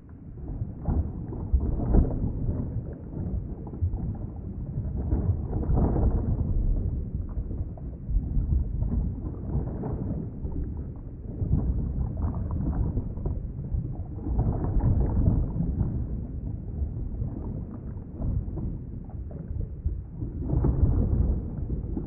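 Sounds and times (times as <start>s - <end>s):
underwater rumbling wash: 0.0s - 22.0s.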